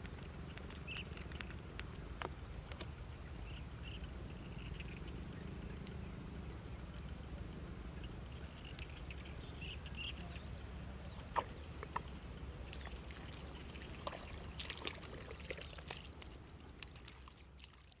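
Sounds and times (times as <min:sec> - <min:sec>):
steady low rumble: 0:00.0 - 0:17.3.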